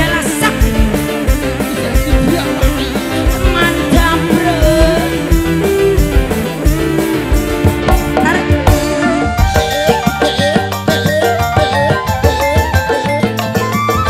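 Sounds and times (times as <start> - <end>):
bass: 0.0 - 14.0
electric guitars: 0.0 - 14.0
keyboard: 0.0 - 14.0
steady drum beat: 0.0 - 14.0.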